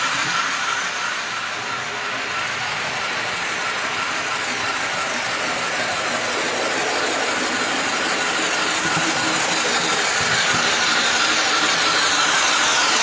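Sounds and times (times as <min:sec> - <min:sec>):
model steam locomotive sounds: 0:00.0 - 0:13.0
model wheel and track noise: 0:00.0 - 0:13.0.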